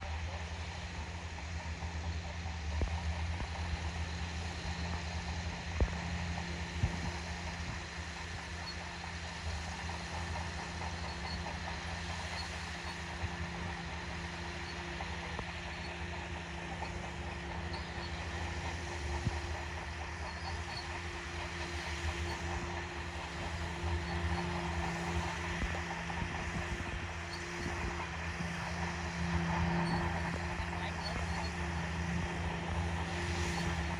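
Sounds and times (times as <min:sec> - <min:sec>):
excavator engine idling: 0:00.0 - 0:33.9.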